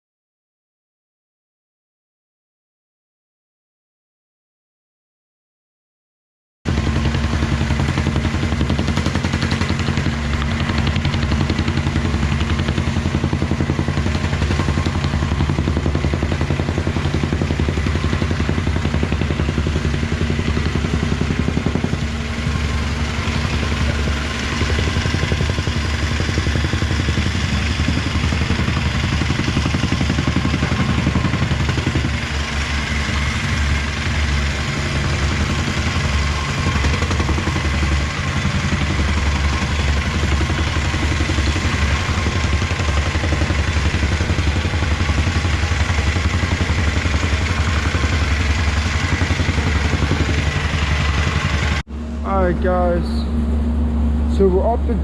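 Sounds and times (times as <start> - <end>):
excavator diesel engine running: 6.7 - 55.0.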